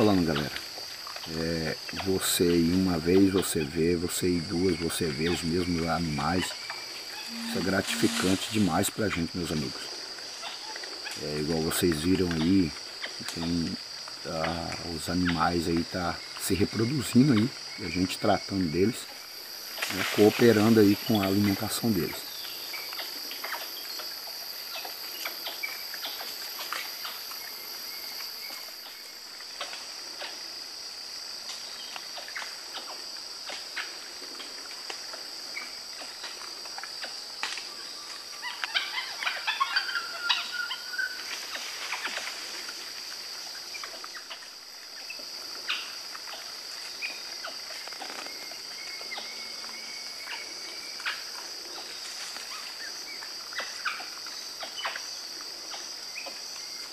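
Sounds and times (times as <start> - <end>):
high insect drone: 0.0 - 56.9.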